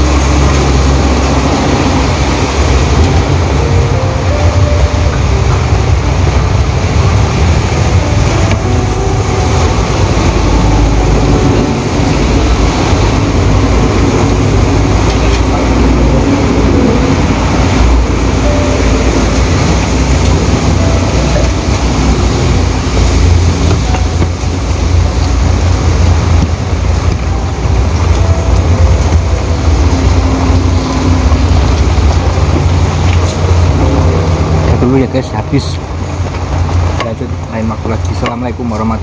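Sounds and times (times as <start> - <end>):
vehicle and road rumble: 0.0 - 39.0.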